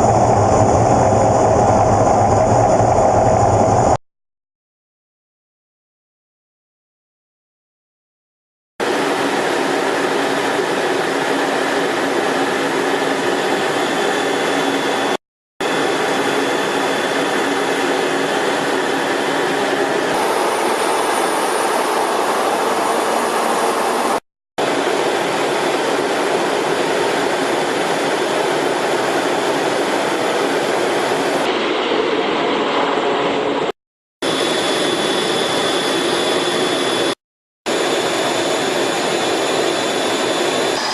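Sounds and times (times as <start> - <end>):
jet engines running: 0.0 - 4.0, 8.8 - 40.9.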